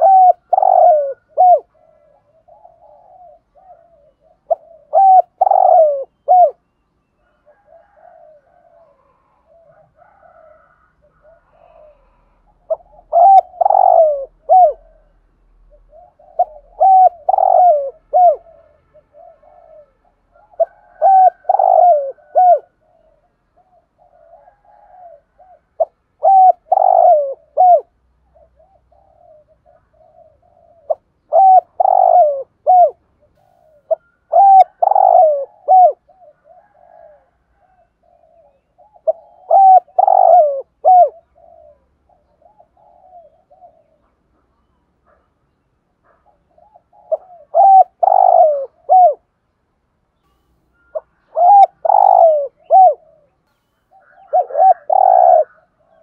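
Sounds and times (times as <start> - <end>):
dove cooing: 0.0 - 45.3, 46.0 - 49.4, 50.8 - 56.0.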